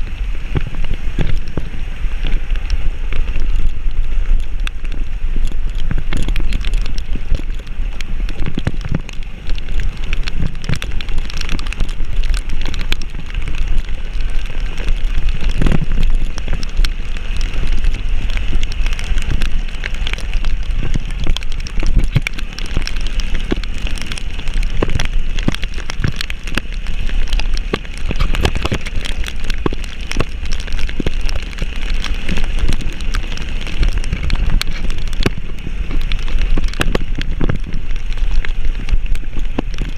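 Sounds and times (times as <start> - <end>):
heavy rain pattering: 0.0 - 39.9
steady low rumble: 0.0 - 39.9.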